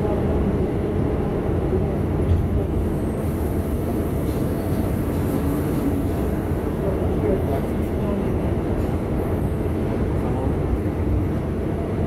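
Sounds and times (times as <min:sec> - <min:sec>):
subway car wheels on rail: 0:00.0 - 0:12.0.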